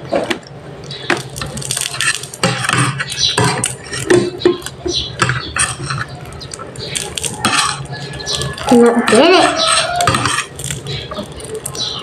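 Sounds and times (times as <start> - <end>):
cutlery scraping a plate: 1.4 - 11.8.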